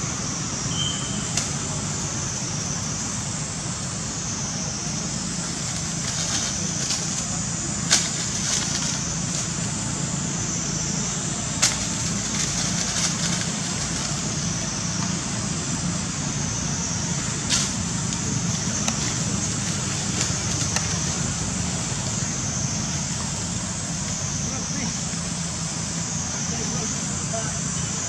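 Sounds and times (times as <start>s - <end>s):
high-pitched hiss: 0.0s - 28.0s.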